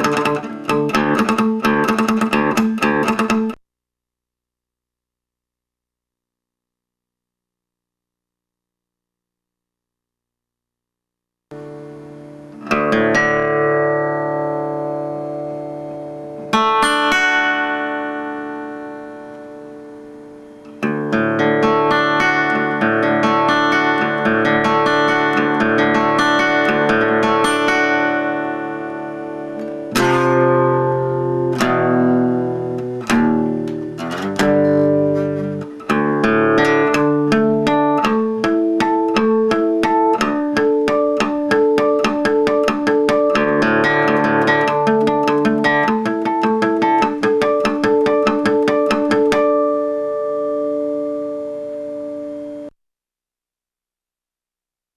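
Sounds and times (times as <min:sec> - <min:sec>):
guitar strumming and picking: 0:00.0 - 0:03.6, 0:11.5 - 0:52.7.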